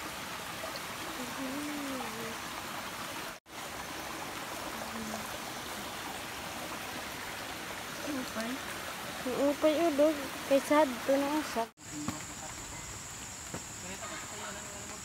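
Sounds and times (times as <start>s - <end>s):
stream water rushing: 0.0s - 12.5s.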